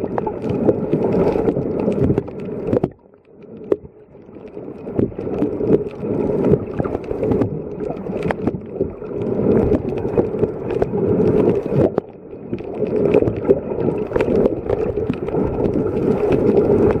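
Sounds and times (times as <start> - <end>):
muffled water sloshing underwater: 0.0 - 17.0.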